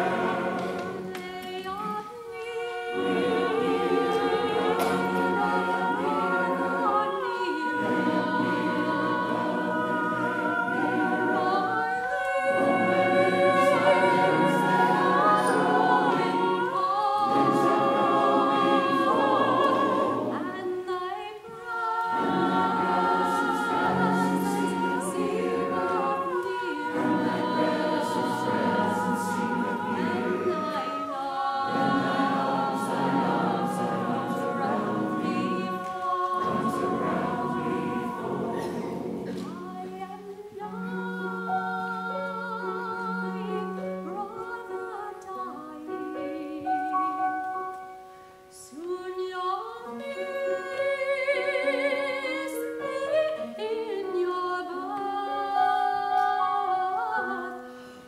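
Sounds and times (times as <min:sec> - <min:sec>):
mixed choir singing with vibrato: 0:00.0 - 0:58.0.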